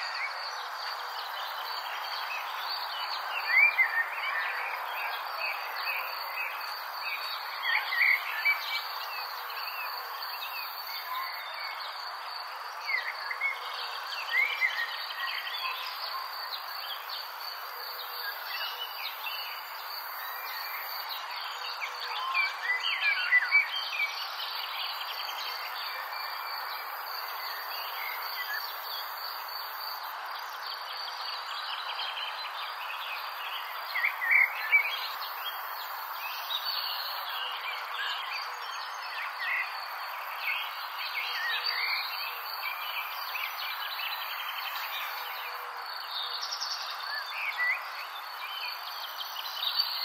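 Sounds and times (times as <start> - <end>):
continuous even hiss: 0.0 - 50.0.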